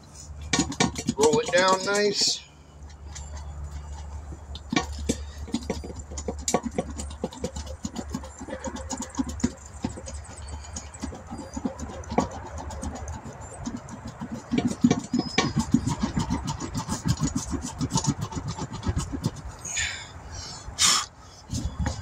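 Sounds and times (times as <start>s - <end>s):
roller clicking and scraping: 0.0s - 20.6s, 21.4s - 22.0s.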